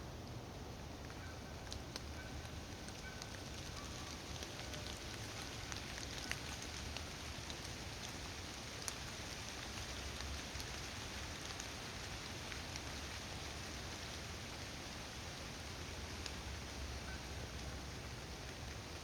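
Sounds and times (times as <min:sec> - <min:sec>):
hiss-like outdoor background noise: 0:00.0 - 0:19.0.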